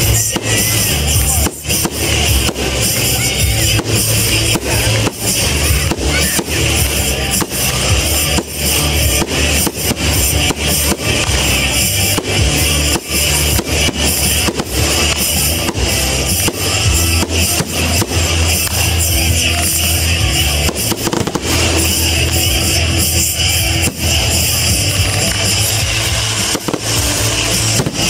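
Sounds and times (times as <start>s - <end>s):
firework shells bursting: 0.0s - 28.0s
music playing: 0.0s - 28.0s.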